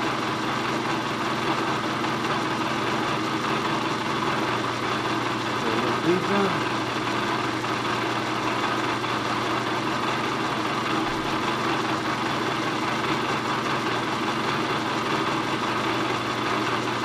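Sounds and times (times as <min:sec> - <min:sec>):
milling machine humming: 0:00.0 - 0:17.0.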